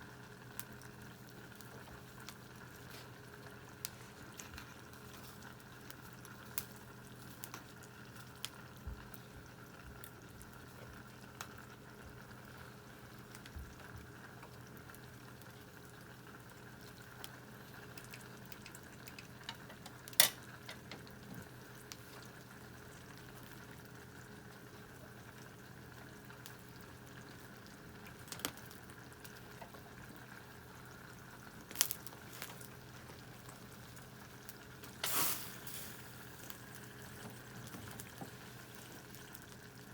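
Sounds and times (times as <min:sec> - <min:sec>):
food simmering in tin can: 0:00.0 - 0:39.9
wood fire crackling: 0:00.0 - 0:39.9.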